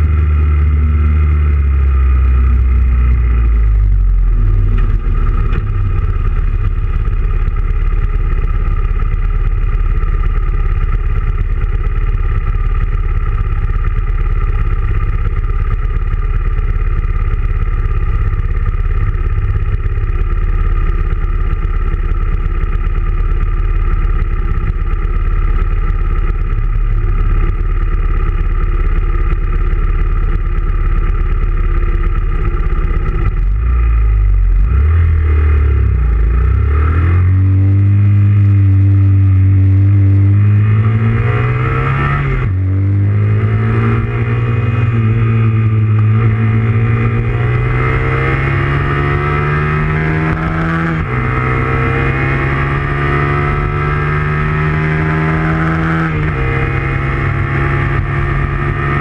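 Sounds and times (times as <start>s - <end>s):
motorcycle engines running: 0.0s - 59.0s.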